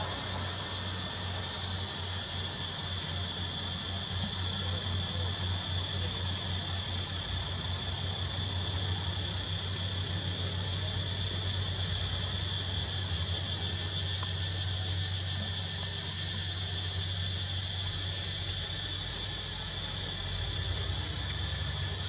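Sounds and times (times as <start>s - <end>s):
high-pitched insects chorus: 0.0s - 22.0s.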